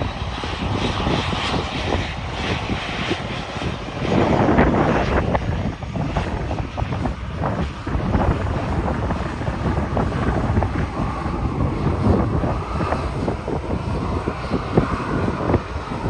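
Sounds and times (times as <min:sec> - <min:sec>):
faint jet engine whine: 0:00.0 - 0:16.0
wind buffeting on microphone: 0:00.0 - 0:16.0.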